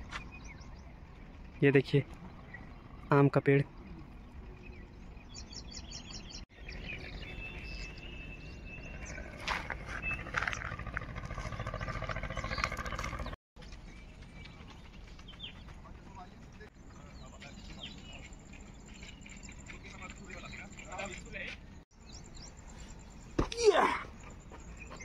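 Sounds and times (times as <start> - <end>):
birds chirping and trilling: 0.0 - 25.0
low outdoor background noise: 0.0 - 25.0.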